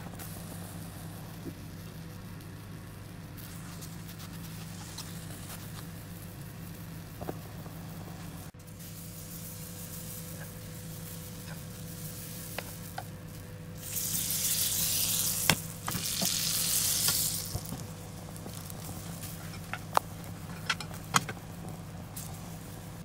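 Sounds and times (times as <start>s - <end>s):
batter sizzling in a frying pan: 0.0s - 23.0s
steady low hum: 0.0s - 23.0s.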